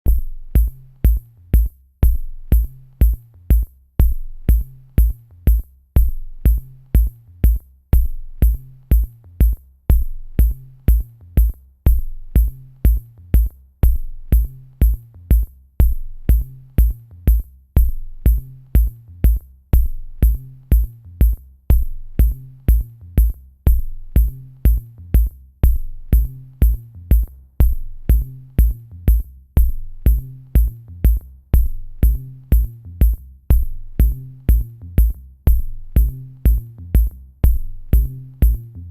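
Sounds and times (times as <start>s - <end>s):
electronic music with drum-machine beat: 0.1s - 38.9s
repeating bass line: 0.1s - 38.9s.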